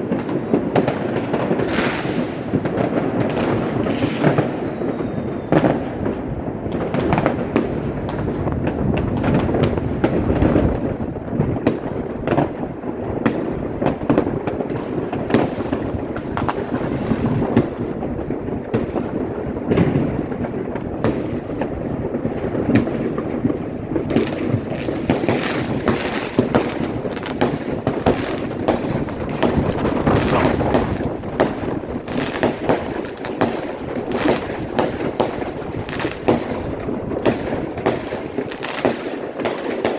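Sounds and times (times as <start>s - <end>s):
fireworks bangs and cracks: 0.0s - 39.9s
fireworks crackling: 0.0s - 39.9s
fireworks rumble: 0.0s - 39.9s.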